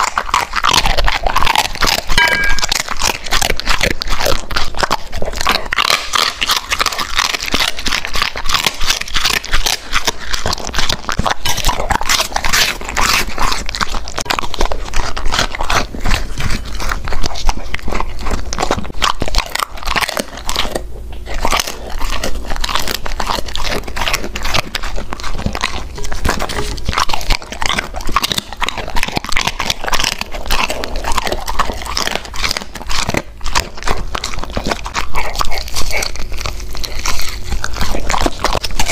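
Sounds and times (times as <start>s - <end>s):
dog crunching food: 0.0s - 38.9s.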